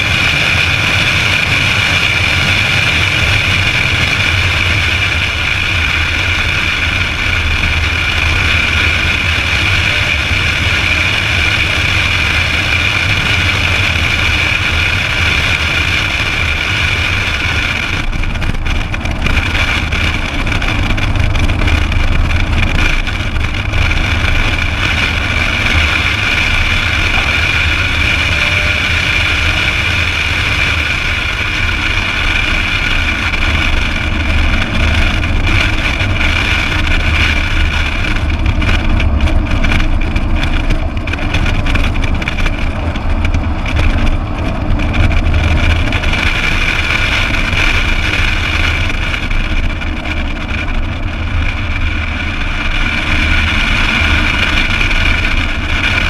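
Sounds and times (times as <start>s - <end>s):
car engine at speed: 0.0s - 56.0s
road noise: 0.0s - 56.0s.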